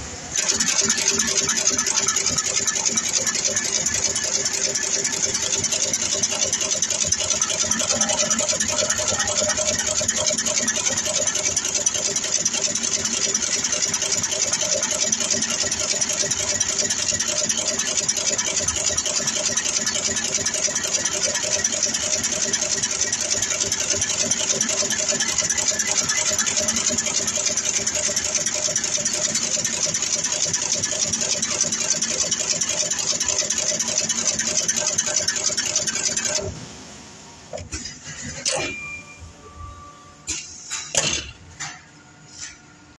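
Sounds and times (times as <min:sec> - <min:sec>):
machine mechanical clatter: 0:00.3 - 0:36.6, 0:37.5 - 0:38.9, 0:40.3 - 0:42.6.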